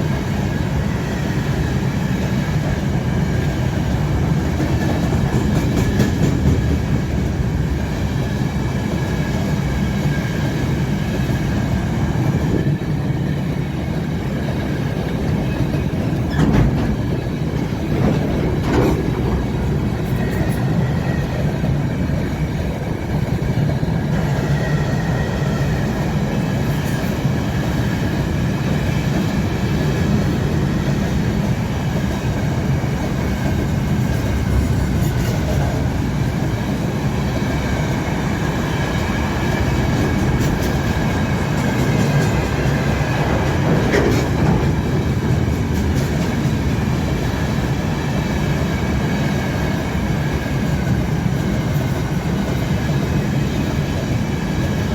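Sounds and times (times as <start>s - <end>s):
freight train wheels clattering: 0.0s - 54.9s.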